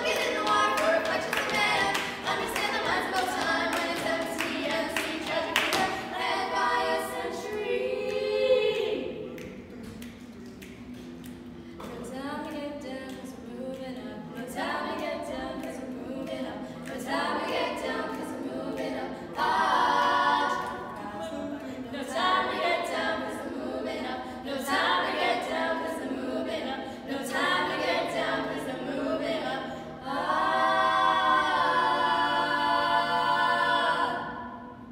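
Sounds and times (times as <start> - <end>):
women singing a cappella harmony: 0.0 - 9.5, 11.0 - 34.9.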